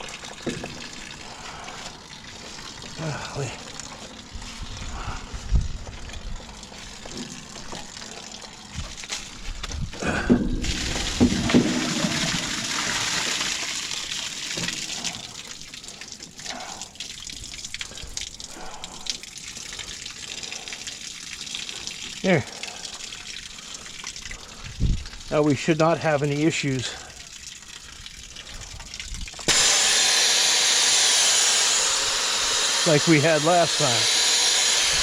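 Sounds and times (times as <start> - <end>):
water gushing from valve: 0.0 - 35.0.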